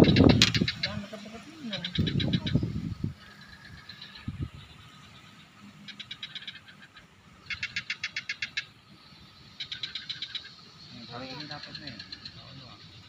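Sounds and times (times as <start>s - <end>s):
bird calling in rapid trills: 0.0s - 13.0s.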